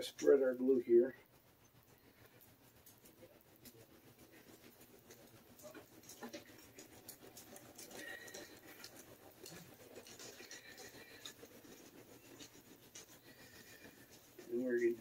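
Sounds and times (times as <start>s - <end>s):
brush spreading glue on wood: 0.0s - 15.0s
light clicks and taps: 2.8s - 15.0s.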